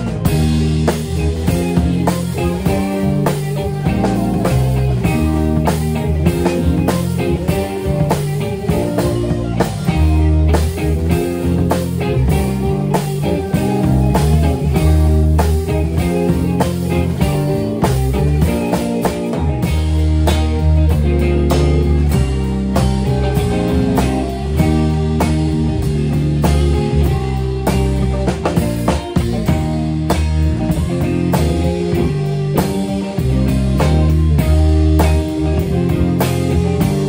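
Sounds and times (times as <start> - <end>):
drum kit beat: 0.0 - 37.0
rock band playing live: 0.0 - 37.0.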